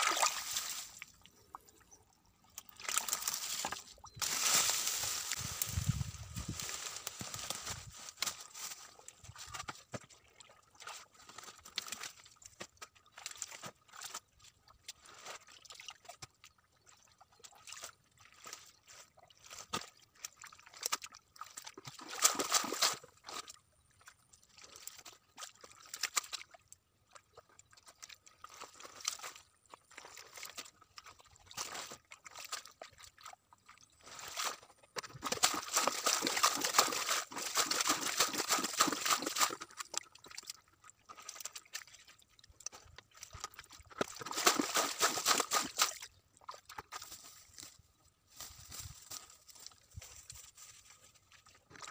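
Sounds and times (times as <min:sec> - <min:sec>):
muddy water splashing: 0:00.0 - 0:51.9.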